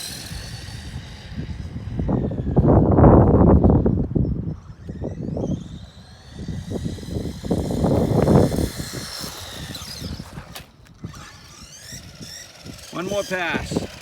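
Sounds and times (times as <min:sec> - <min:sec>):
electric motor whining: 0:00.0 - 0:14.0
wind rumbling on microphone: 0:00.0 - 0:14.0.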